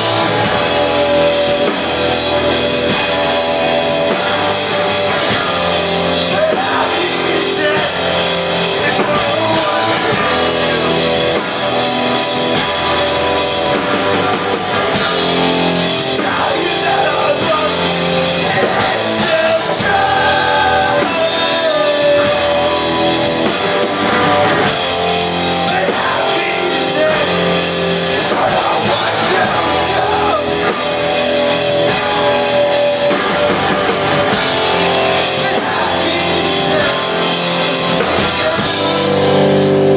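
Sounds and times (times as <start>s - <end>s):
drum kit: 0.0s - 39.9s
electric guitars: 0.0s - 39.9s
person singing: 0.0s - 39.9s.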